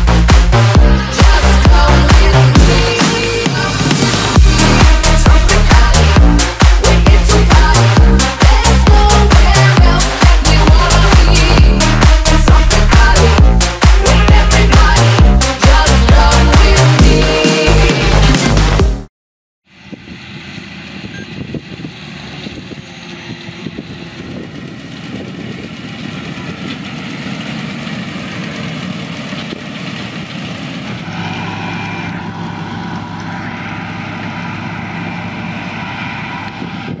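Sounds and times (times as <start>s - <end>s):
tractor diesel engine drone: 0.0s - 18.8s, 19.7s - 37.0s.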